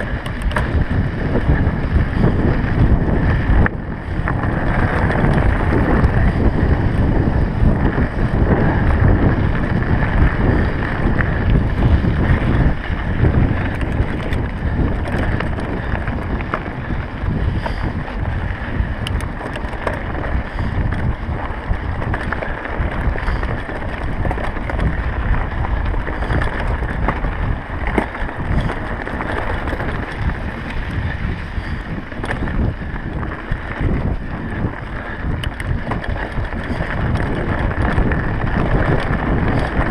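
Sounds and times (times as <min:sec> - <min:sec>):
bike tyres rolling on rocky dirt: 0:00.0 - 0:39.9
stones and bike rattling: 0:00.0 - 0:39.9
wind buffeting microphone: 0:00.0 - 0:39.9.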